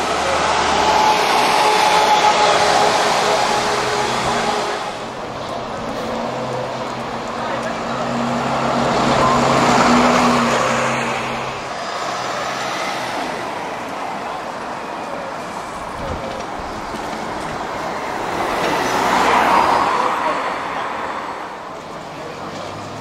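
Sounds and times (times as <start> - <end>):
bus engine passing: 0.0 - 23.0
street traffic: 0.0 - 23.0.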